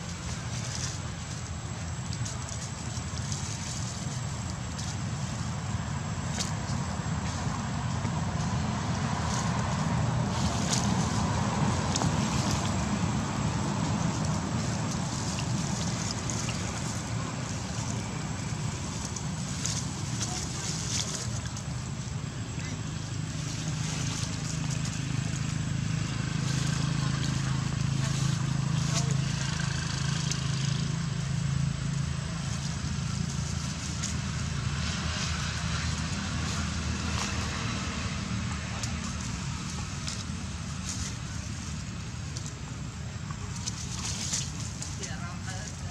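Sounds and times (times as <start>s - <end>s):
low outdoor rumble: 0.0s - 45.9s.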